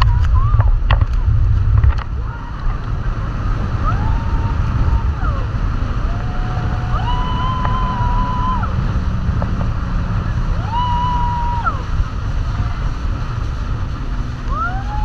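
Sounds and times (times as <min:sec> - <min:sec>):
rushing water spray: 0:00.0 - 0:15.0
wind buffeting microphone: 0:00.0 - 0:15.0
riders yelling: 0:02.1 - 0:15.0.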